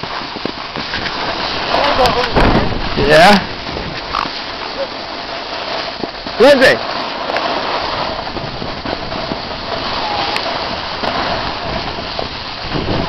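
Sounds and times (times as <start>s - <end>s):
snowboard sliding on snow: 0.0s - 13.0s
wind on microphone: 0.0s - 13.0s.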